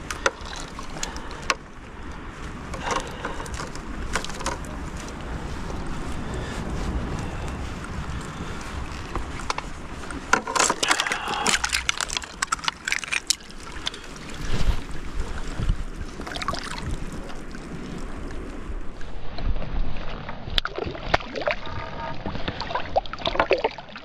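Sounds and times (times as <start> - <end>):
wind on microphone: 0.0 - 23.2
river water splashing: 0.0 - 24.0.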